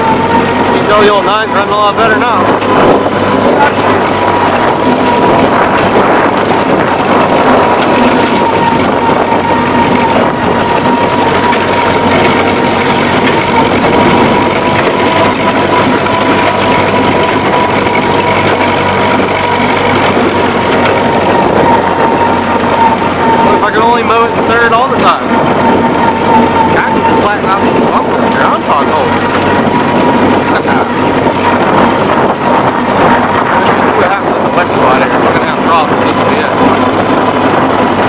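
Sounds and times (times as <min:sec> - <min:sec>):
mower high whine: 0:00.0 - 0:38.0
tractor engine under load: 0:00.0 - 0:38.0.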